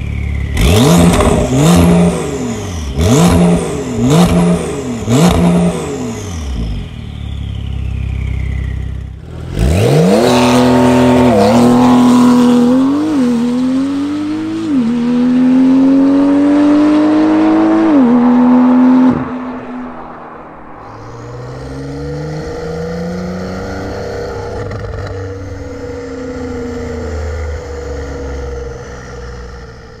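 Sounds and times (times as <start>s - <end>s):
sports car engine accelerating: 0.0s - 30.0s.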